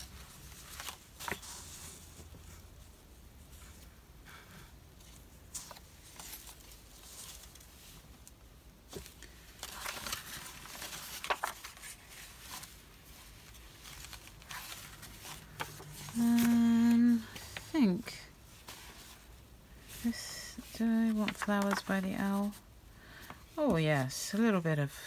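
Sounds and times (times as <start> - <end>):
paper rustling: 0.0 - 3.9, 5.0 - 22.6.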